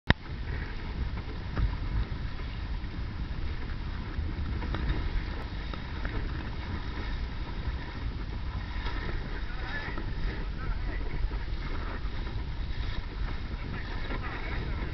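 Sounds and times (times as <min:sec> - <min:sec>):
water splashing along hull: 0:00.1 - 0:14.9
wind buffeting microphone: 0:00.1 - 0:14.9.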